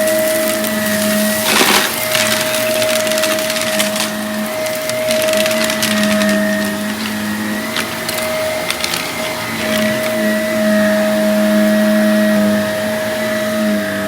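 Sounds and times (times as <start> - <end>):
debris crackling in vacuum: 0.0 - 14.0
vacuum cleaner whining: 0.0 - 14.0.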